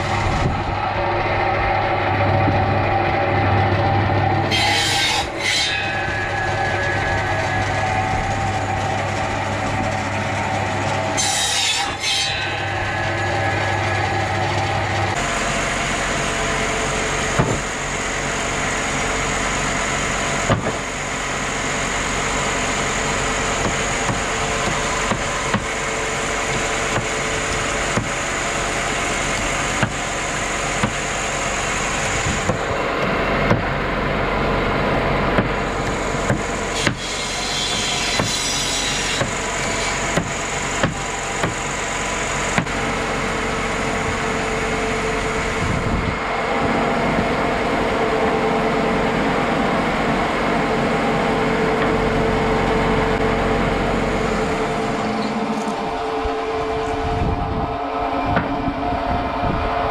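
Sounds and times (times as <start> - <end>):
high whine: 0.0 - 59.9
sawmill machinery running: 0.0 - 59.9.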